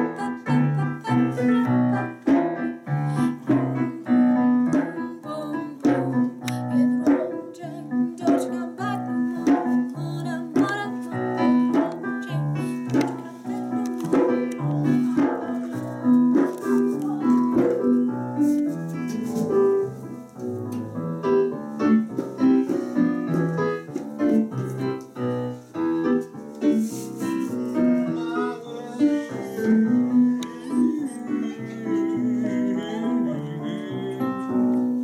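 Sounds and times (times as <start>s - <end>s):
piano music: 0.0s - 35.0s.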